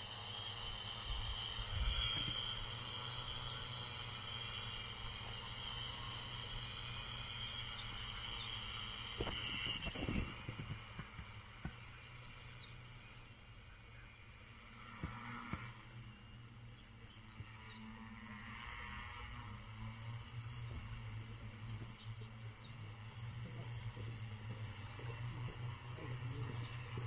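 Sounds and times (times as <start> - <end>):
insects chirping: 0.0 - 27.0
low steady hum: 0.0 - 27.0.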